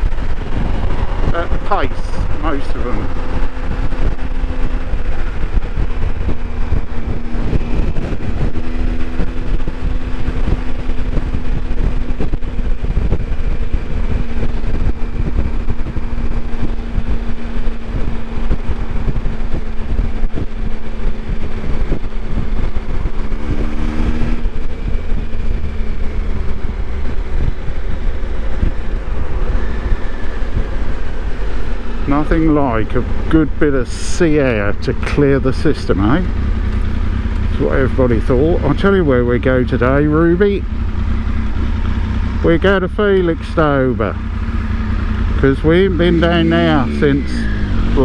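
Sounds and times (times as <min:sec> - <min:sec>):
heavy low rumble: 0:00.0 - 0:48.0
motorcycle engine running: 0:00.0 - 0:48.0.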